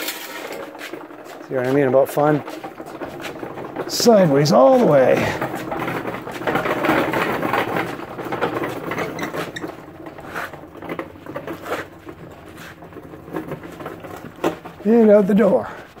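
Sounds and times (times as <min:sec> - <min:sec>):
wheeled steel frame rattling: 0:00.0 - 0:16.0.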